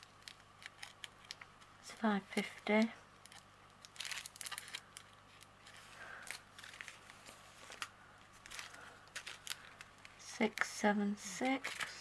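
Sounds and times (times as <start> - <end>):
plastic packets crinkling: 0.0 - 12.0.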